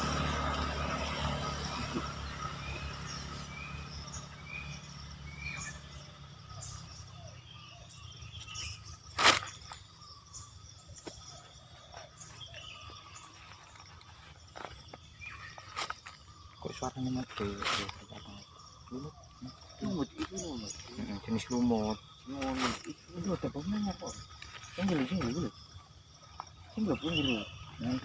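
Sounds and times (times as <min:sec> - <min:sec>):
bird chirps: 0:00.0 - 0:28.0.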